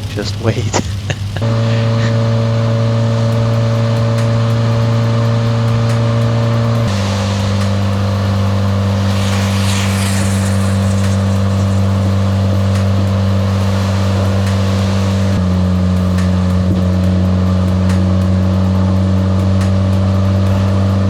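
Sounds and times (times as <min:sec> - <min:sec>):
car engine droning: 0:00.0 - 0:21.0
tyres hissing on wet road: 0:00.0 - 0:21.0.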